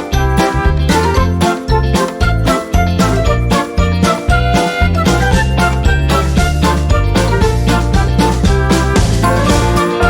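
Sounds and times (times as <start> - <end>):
upbeat music with bouncy beat: 0.0 - 10.0.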